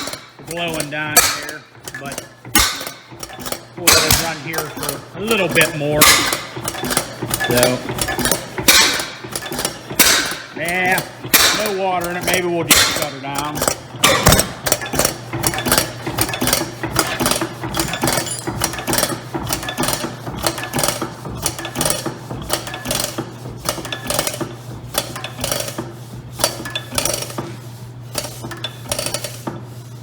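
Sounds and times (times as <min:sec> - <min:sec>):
stationary engine clattering: 0:00.0 - 0:27.5.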